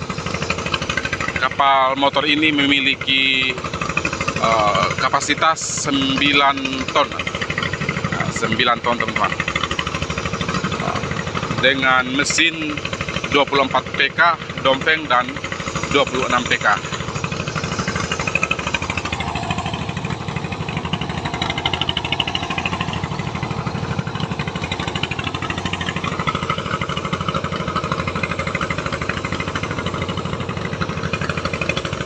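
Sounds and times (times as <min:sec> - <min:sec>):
boat diesel engines knocking: 0:00.0 - 0:32.0.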